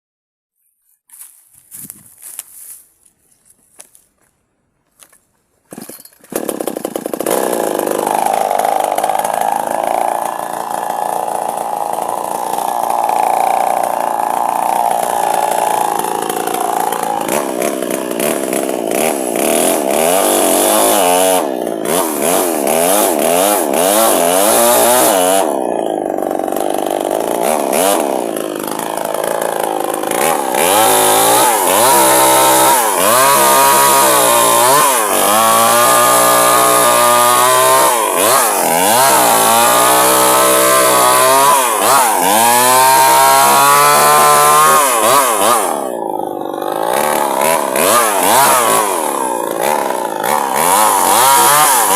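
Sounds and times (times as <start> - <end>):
chainsaw cutting wood: 4.9 - 51.9.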